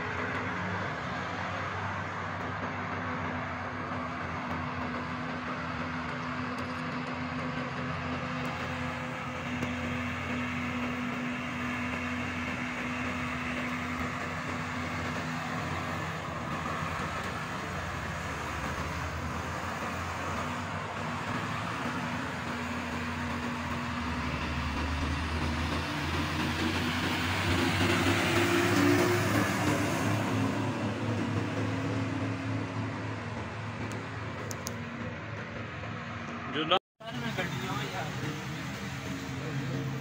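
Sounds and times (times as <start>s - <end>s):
light road traffic: 0.0s - 40.0s
truck diesel engine driving past: 0.0s - 40.0s.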